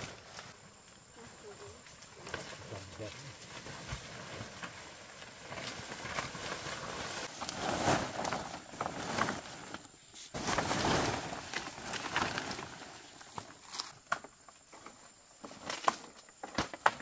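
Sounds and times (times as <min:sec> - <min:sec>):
footsteps through vegetation: 0:00.0 - 0:14.1
leaves rustling: 0:00.0 - 0:16.9.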